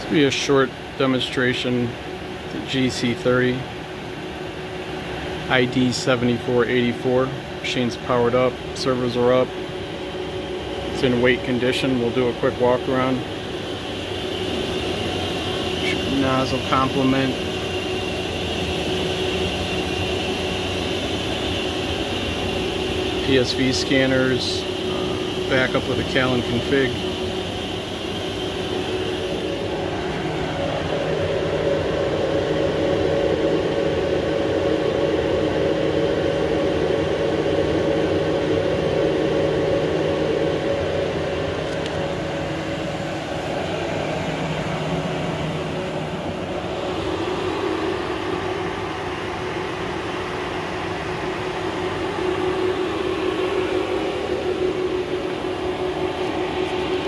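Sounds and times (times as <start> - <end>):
machine hum with held tones: 0.0 - 57.0.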